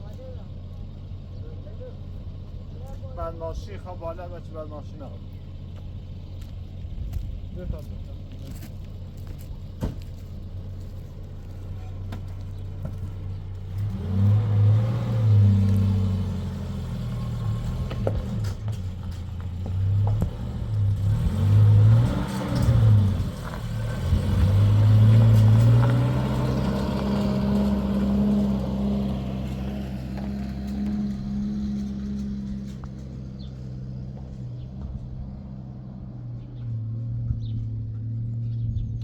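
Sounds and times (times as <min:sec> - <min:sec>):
vehicle engine revving: 0:00.0 - 0:39.0.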